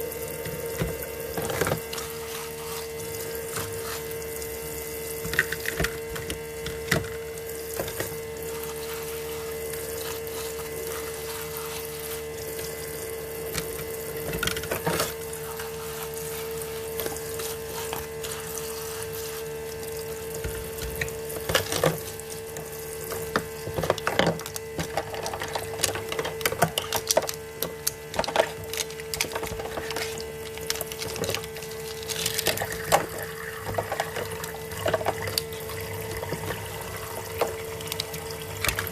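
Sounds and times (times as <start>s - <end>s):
small water pump humming: 0.0s - 38.9s.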